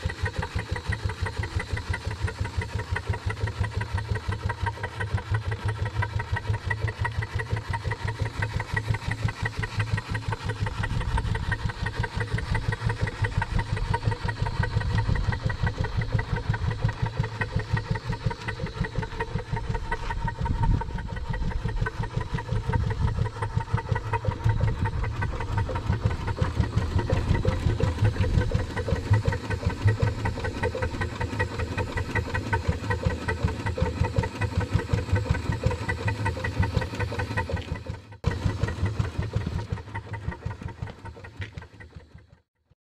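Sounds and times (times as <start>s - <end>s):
steam engine exhaust beating: 0.0s - 42.4s.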